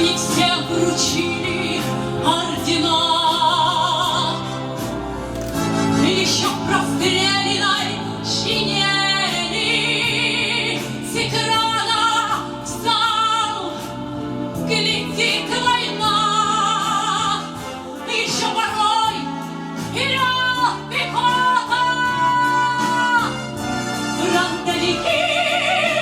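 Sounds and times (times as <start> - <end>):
instrumental accompaniment: 0.0 - 26.0
woman singing with vibrato: 0.0 - 26.0.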